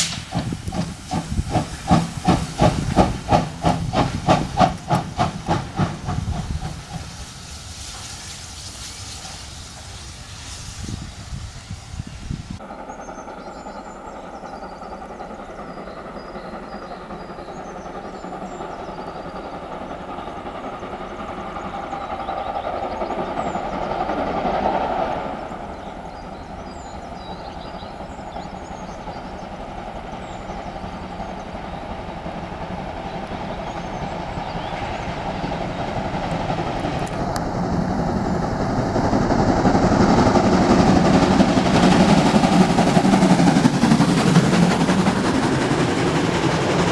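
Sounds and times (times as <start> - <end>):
train rumbling on rails: 0.0 - 46.9.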